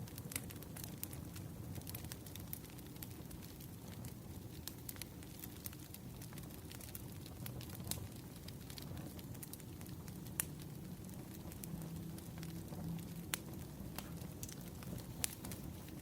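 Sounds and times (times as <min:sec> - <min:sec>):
logs crackling and popping: 0:00.0 - 0:16.0
wood fire rumbling: 0:00.0 - 0:16.0.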